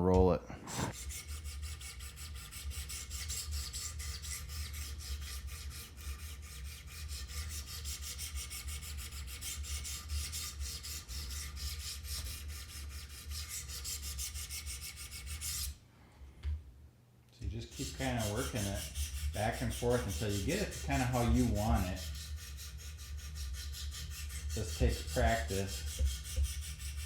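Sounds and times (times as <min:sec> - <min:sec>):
sharpening stone strokes on knife: 0:00.7 - 0:15.8, 0:17.7 - 0:27.0.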